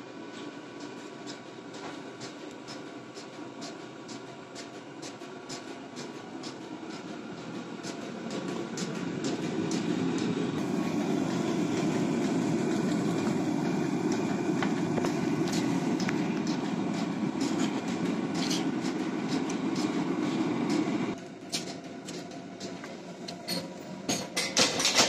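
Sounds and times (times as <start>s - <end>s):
gas forge burner rushing: 0.0s - 25.0s.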